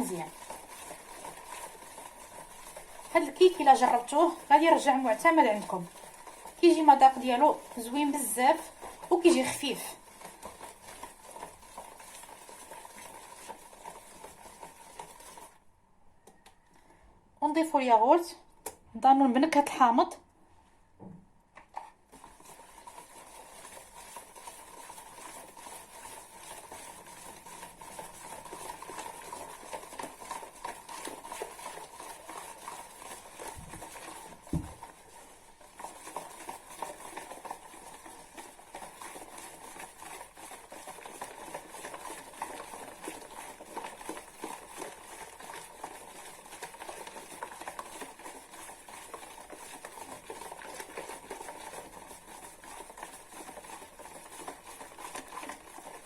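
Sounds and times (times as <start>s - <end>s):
whisk scraping a bowl: 0.0s - 15.6s, 21.8s - 56.0s.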